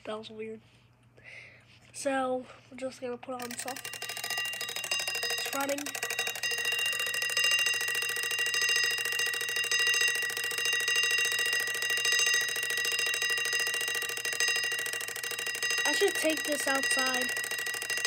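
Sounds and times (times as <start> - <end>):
alarm clock bell ringing: 3.4 - 18.0.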